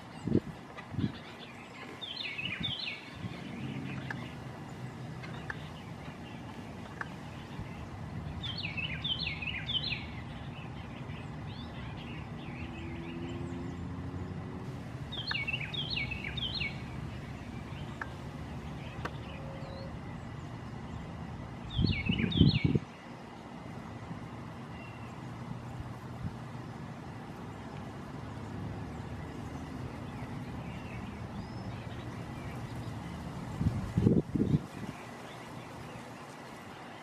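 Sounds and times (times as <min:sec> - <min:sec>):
bird warbling song: 0:00.0 - 0:37.0.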